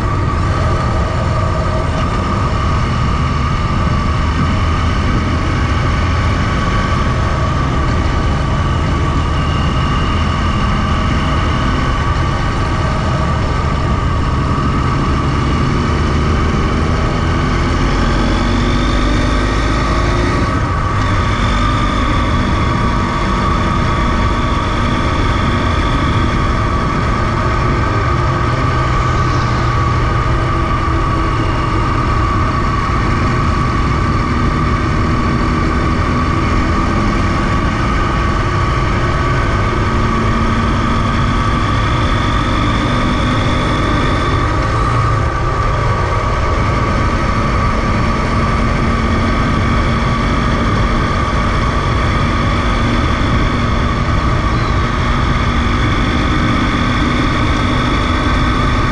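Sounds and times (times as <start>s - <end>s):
motorcycle engine cruising: 0.0s - 58.9s
wind and road noise: 0.0s - 58.9s.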